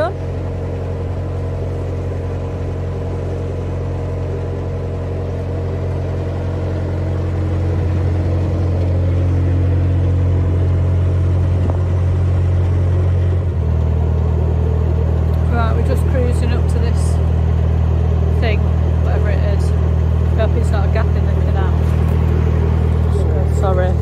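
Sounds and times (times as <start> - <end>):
boat diesel engine droning: 0.0 - 24.0.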